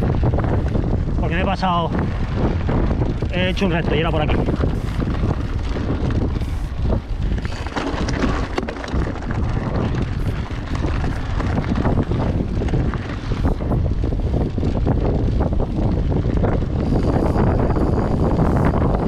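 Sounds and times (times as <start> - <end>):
bike rattling clicks: 0.0 - 19.0
tyres crunching over gravel: 0.0 - 19.0
wind buffeting microphone: 0.0 - 19.0.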